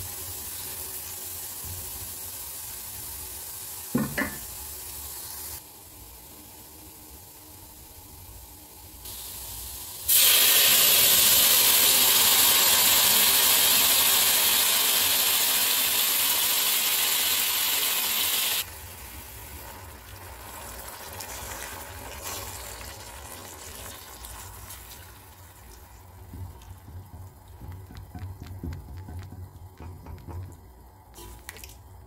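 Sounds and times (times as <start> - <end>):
tomatoes sizzling in hot oil: 0.0 - 31.6.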